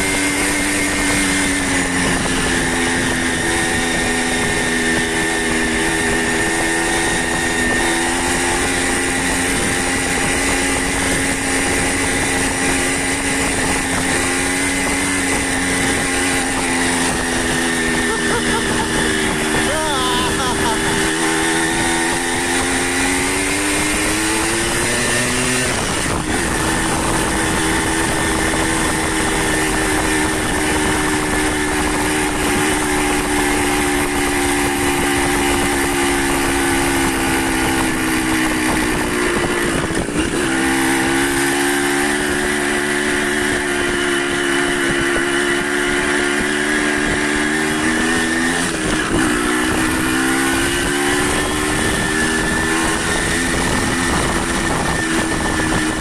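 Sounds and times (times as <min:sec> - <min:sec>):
motorcycle engine running: 0:00.0 - 0:56.0
steady rushing noise: 0:00.0 - 0:56.0.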